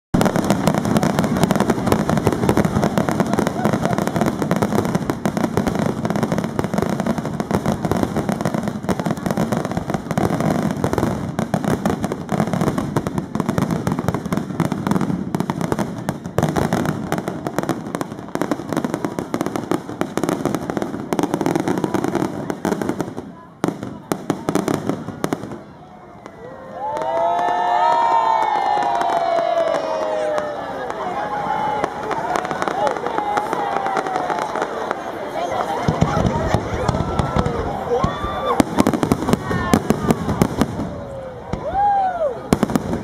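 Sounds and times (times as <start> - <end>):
fireworks bangs and crackling: 0.1 - 43.0.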